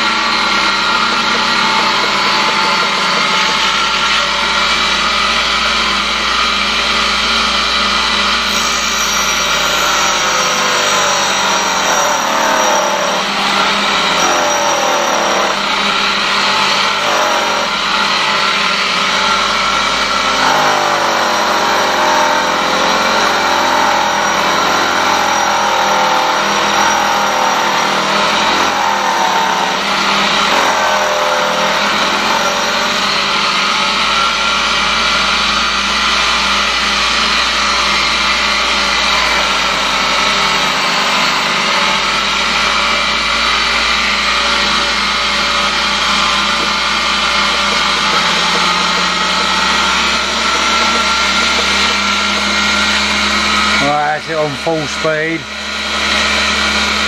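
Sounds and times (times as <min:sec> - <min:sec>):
grinder motor whine: 0:00.0 - 0:57.0
grinding wheel hiss: 0:00.0 - 0:57.0.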